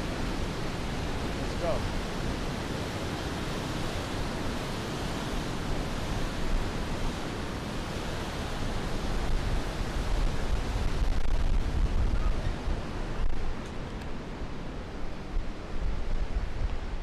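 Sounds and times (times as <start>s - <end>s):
fast-flowing river rushing: 0.0s - 17.0s.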